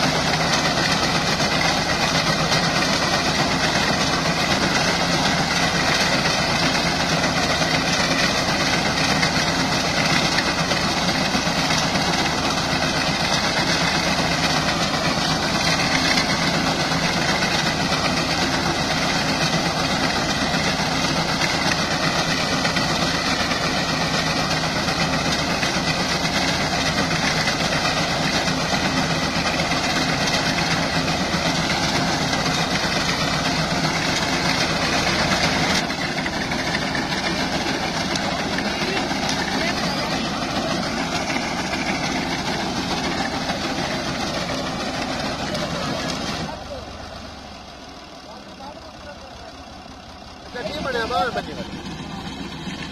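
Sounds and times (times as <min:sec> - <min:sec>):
tractor engine drone: 0:00.0 - 0:52.9.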